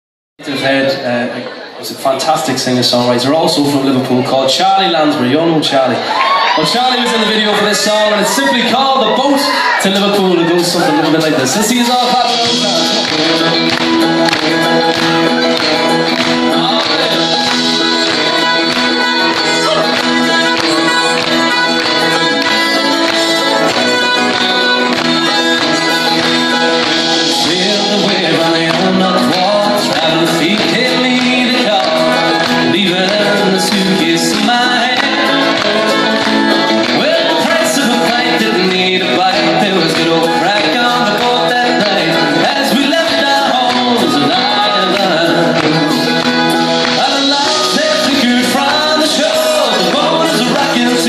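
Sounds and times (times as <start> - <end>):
acoustic guitar: 0.4 - 51.0
live band playing: 0.4 - 51.0
accordion chords: 9.6 - 51.0
drums steady beat: 10.0 - 51.0.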